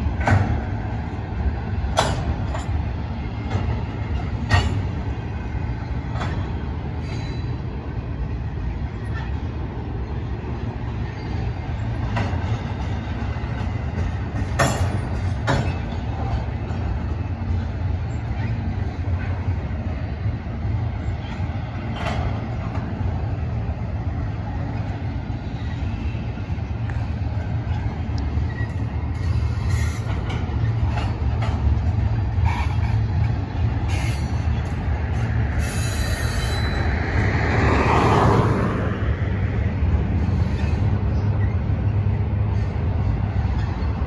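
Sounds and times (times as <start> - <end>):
freight train rumbling on rails: 0.0 - 44.0.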